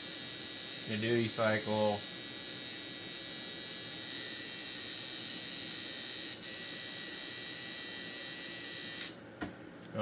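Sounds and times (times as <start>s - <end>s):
tattoo machine buzzing: 0.0s - 9.2s.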